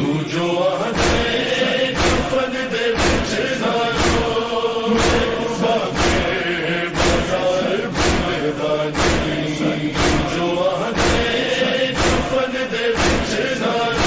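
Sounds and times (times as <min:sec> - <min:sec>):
person chanting a lament: 0:00.0 - 0:14.0
steady thumping beat: 0:00.9 - 0:14.0.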